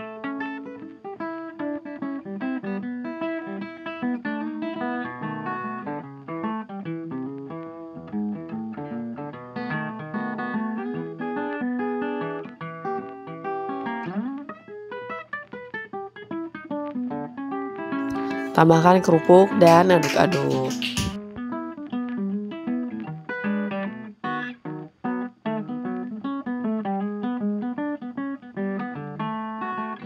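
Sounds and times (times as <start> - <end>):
plucked acoustic guitar melody: 0.0 - 30.0.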